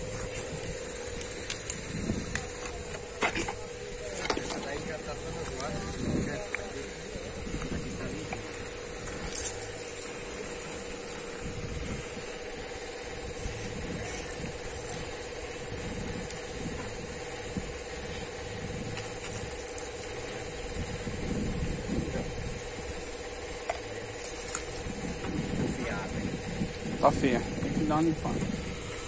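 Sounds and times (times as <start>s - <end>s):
air compressor humming: 0.0s - 29.0s.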